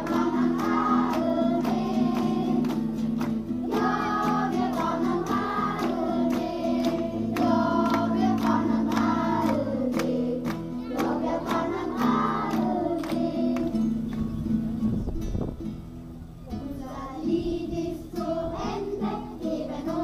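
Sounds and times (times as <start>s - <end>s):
children singing together: 0.0s - 14.0s, 16.5s - 20.0s.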